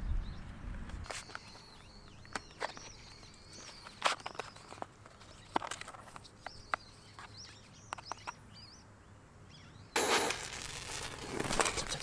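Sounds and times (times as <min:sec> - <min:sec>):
birds chirping: 0:01.2 - 0:12.0.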